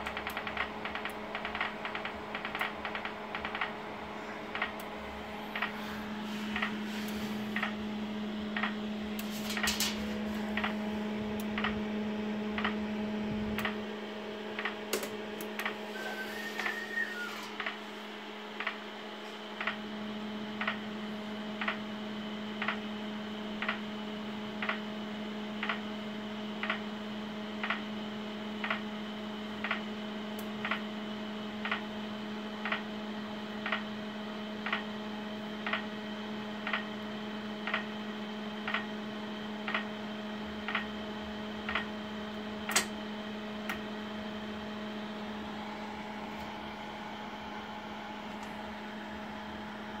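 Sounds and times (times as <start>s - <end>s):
steady electrical hum: 0.0s - 50.0s.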